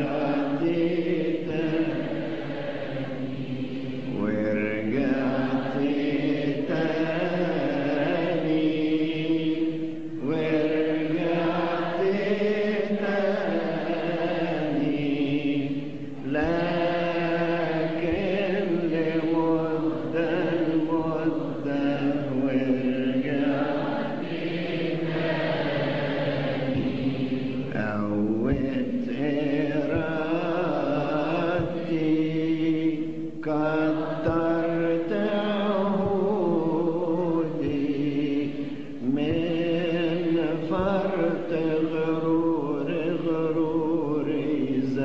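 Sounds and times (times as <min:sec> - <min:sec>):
slow chant-like hymn: 0:00.0 - 0:45.0.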